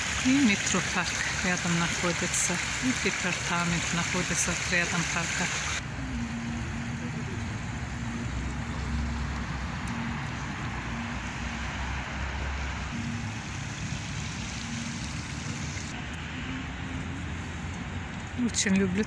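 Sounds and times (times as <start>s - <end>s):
city traffic: 0.0s - 19.0s.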